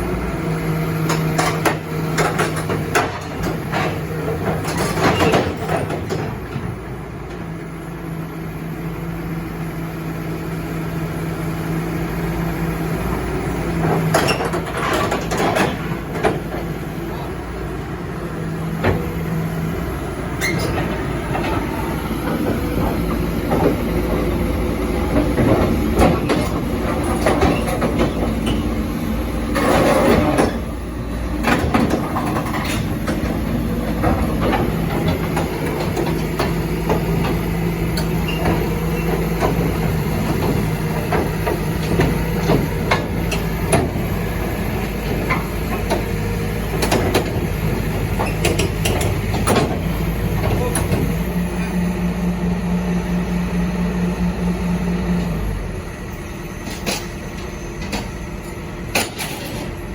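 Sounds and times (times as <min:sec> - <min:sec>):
diesel engine humming: 0:00.0 - 0:59.9
steel tracks clanking: 0:01.0 - 0:07.6, 0:12.9 - 0:59.9.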